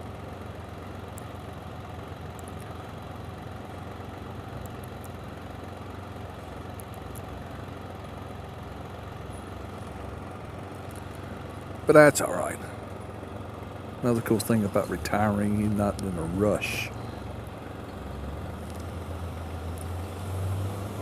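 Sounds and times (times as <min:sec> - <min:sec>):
motorcycle engine idling: 0:00.0 - 0:18.1.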